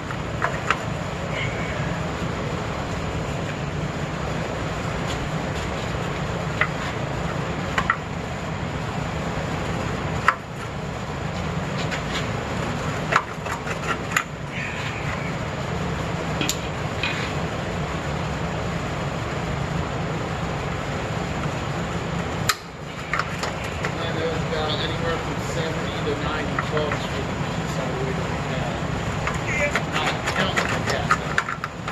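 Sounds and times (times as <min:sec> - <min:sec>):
steady low rumble: 0:00.0 - 0:31.9.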